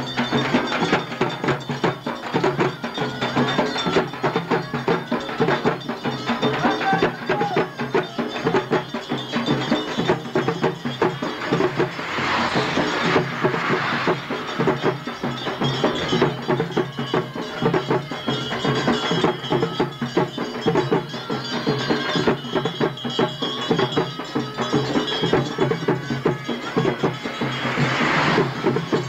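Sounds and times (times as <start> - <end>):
drums in fast rhythm: 0.0 - 29.0
ringing metallic tone: 0.0 - 29.0.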